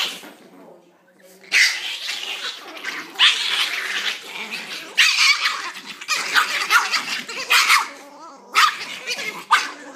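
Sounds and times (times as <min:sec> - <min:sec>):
small dog growling: 0:01.4 - 0:09.9.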